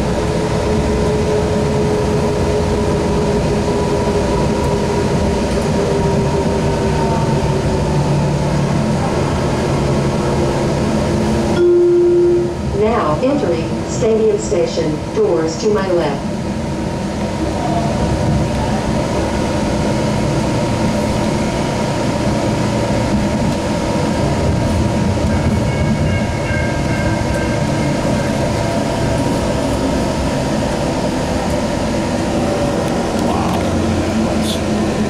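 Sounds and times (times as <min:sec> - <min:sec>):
light rail car running: 0:00.0 - 0:35.0.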